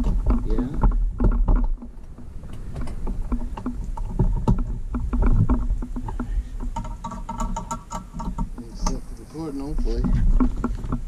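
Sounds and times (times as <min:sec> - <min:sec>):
bike trailer frame rattling: 0:00.0 - 0:11.0.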